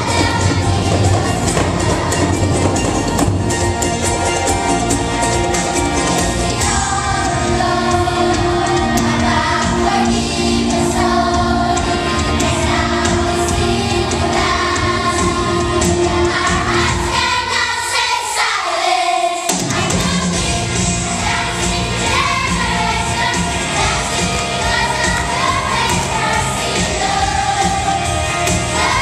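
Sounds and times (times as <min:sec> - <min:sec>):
backing music with steady beat: 0:00.0 - 0:17.6, 0:19.4 - 0:29.0
children's choir singing: 0:00.0 - 0:29.0.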